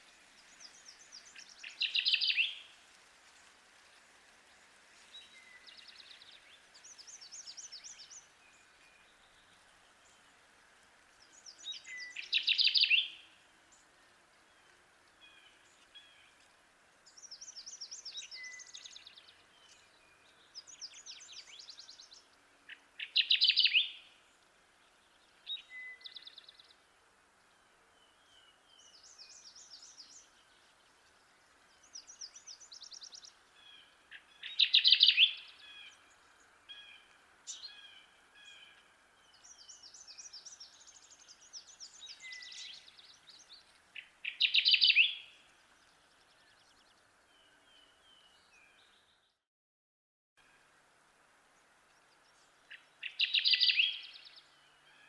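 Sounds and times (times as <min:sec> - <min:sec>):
warbler singing loud song: 0:00.0 - 0:49.4, 0:50.6 - 0:55.0.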